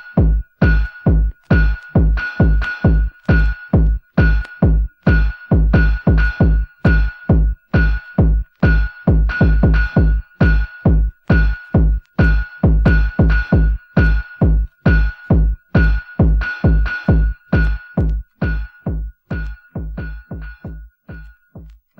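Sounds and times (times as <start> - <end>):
techno drum machine beat: 0.0 - 21.9.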